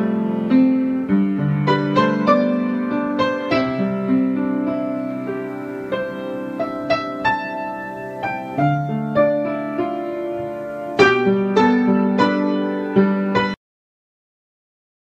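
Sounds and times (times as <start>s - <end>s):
slow soft piano music: 0.0s - 13.6s.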